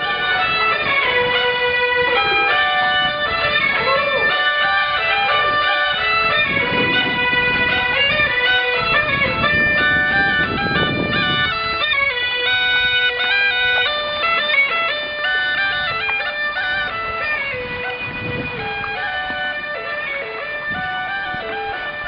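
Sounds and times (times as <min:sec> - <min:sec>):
bagpipe melody over drone: 0:00.0 - 0:22.0.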